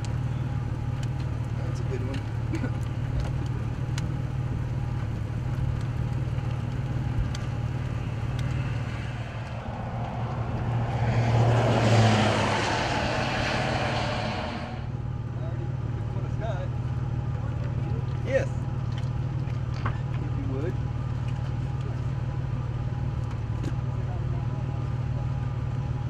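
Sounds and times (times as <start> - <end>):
passing vehicle engine and tyres: 0.0 - 26.0
vehicle engine idling: 0.0 - 26.0.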